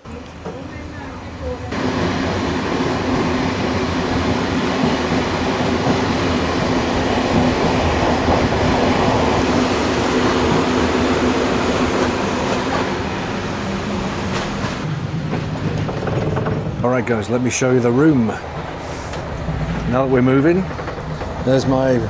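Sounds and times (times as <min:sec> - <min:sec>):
train rolling along track: 0:00.0 - 0:22.0.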